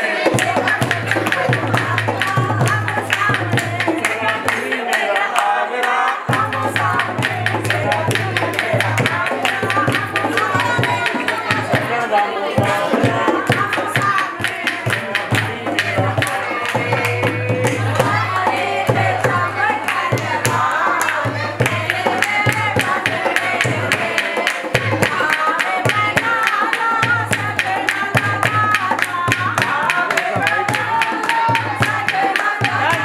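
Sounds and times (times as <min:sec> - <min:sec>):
song with fast drum beat: 0:00.1 - 0:04.5, 0:06.2 - 0:12.0, 0:12.6 - 0:33.0.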